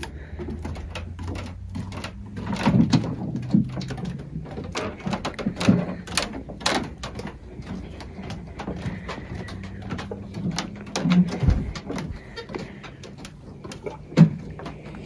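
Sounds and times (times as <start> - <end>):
close-up rustling: 0.0 - 15.0
irregular clicks and knocks: 0.0 - 15.0.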